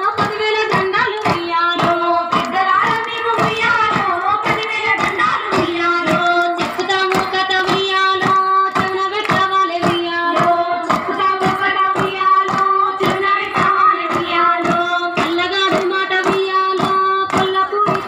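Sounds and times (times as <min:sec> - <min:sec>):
rhythmic hand claps: 0:00.0 - 0:18.0
women singing folk song: 0:00.0 - 0:18.0.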